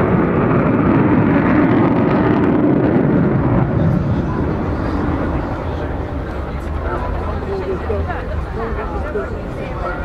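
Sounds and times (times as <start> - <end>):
jet aircraft roar overhead: 0.0 - 10.0.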